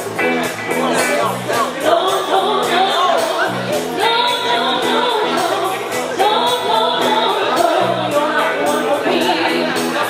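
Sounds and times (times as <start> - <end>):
live band music: 0.0 - 10.0
person singing: 1.0 - 10.0.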